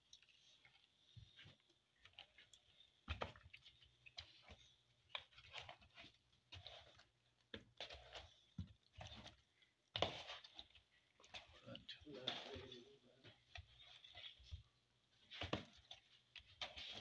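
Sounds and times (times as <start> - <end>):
hand mixing fish in a bowl: 0.0 - 17.0.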